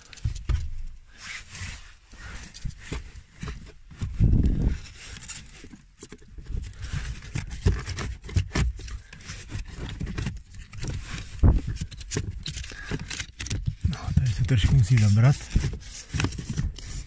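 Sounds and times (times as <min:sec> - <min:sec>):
filter scraping against plastic: 0:00.0 - 0:17.0.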